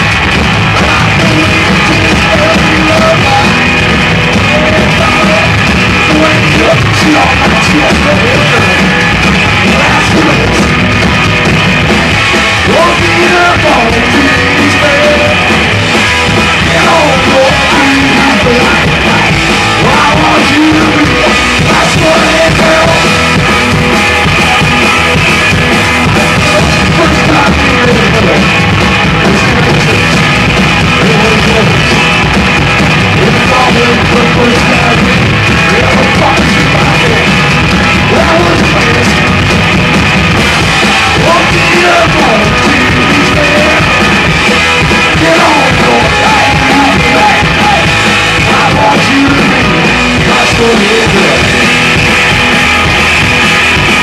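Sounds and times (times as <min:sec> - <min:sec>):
drum kit: 0:00.0 - 0:54.0
electric guitar: 0:00.0 - 0:54.0
upright bass: 0:00.0 - 0:54.0.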